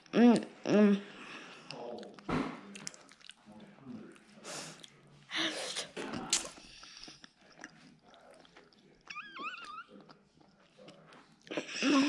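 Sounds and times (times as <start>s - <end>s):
close-up chewing: 1.3s - 5.2s, 6.0s - 12.0s.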